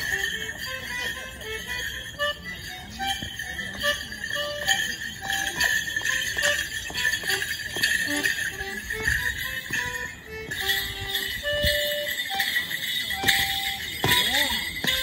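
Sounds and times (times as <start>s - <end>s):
bell pads jingling: 0.0s - 15.0s
live jig tune: 0.0s - 15.0s.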